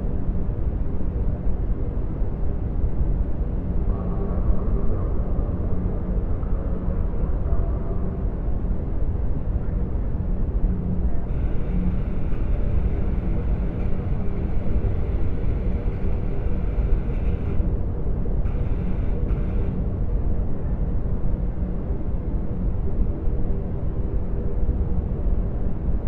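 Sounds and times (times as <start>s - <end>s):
deep rumble with low hum: 0.0s - 26.0s.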